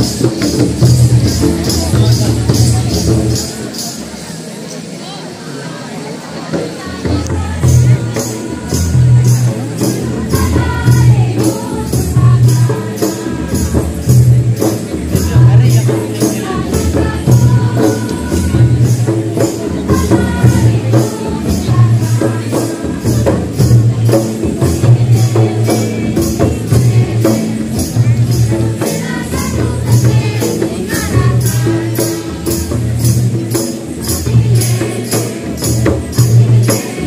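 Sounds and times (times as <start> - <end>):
voices singing: 6.4 - 37.0.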